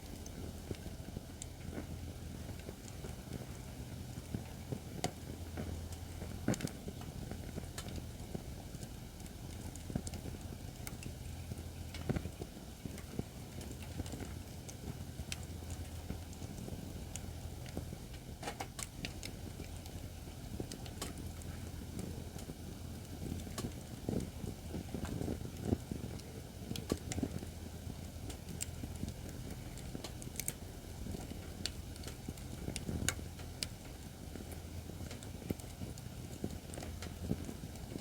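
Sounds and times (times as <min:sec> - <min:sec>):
firewood crackling and popping: 0:00.0 - 0:38.0
low steady rumble: 0:00.0 - 0:38.0.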